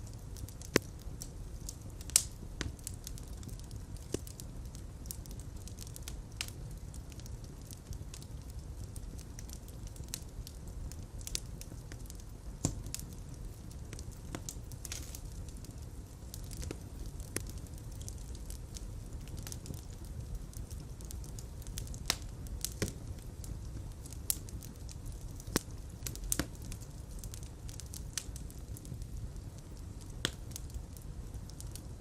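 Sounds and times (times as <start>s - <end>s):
fire crackling in fireplace: 0.0s - 32.0s.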